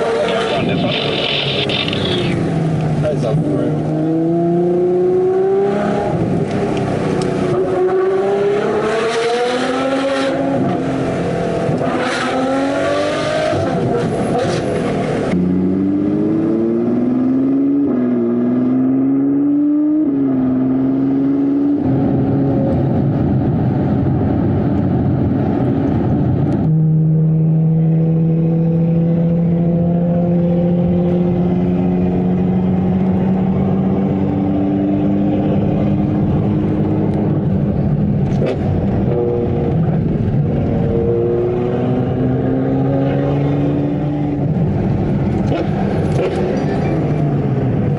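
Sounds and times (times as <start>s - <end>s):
sports car engine revving: 0.0s - 23.1s, 25.5s - 47.9s.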